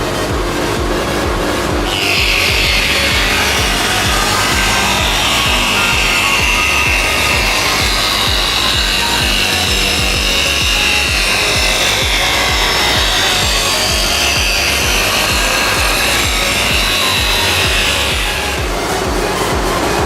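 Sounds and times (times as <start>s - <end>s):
music beat: 0.0s - 20.0s
power tool cutting wood: 1.8s - 19.2s.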